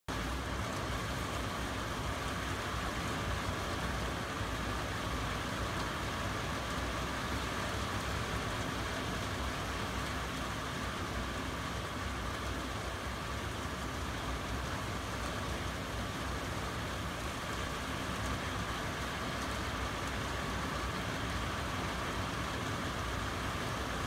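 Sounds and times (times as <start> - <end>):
heavy rain hissing: 0.1 - 24.0.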